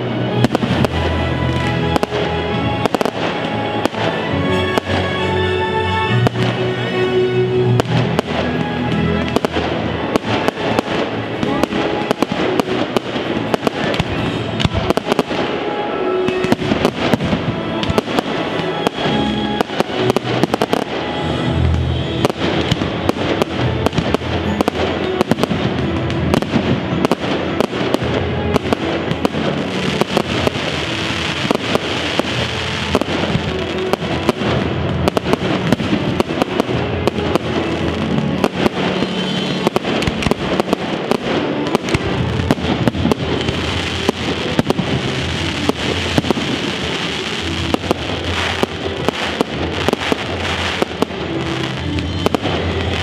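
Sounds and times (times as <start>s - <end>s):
fireworks bangs and crackling: 0.0s - 53.0s
music playing: 0.0s - 53.0s.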